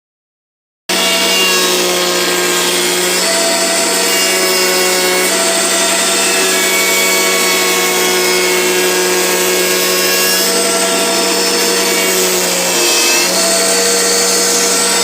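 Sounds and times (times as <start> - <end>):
machine motor humming and whining: 0.9 - 15.0.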